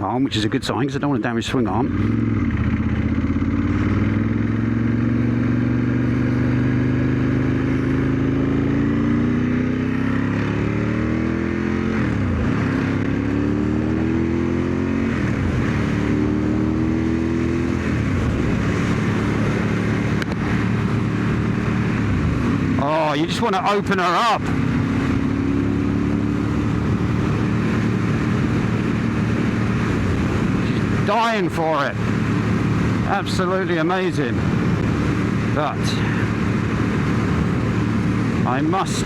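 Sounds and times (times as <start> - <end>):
motorcycle engine accelerating: 0.8 - 39.0.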